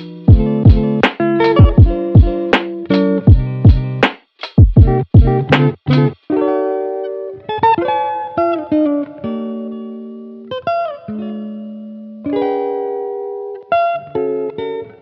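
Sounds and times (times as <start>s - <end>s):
plucked string chords: 0.0s - 15.0s.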